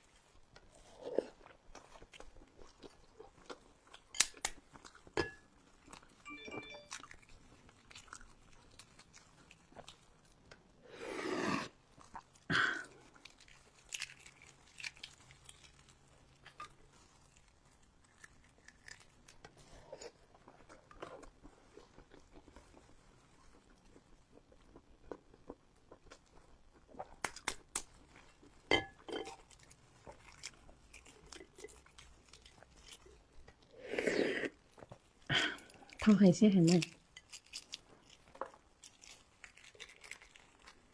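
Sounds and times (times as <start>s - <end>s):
food crunching: 0.0s - 40.9s
person chewing food: 0.0s - 40.9s.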